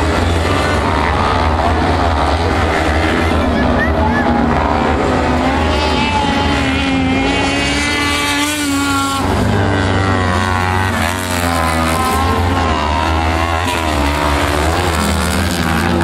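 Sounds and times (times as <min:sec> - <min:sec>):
racing buggy engines revving: 0:00.0 - 0:16.0.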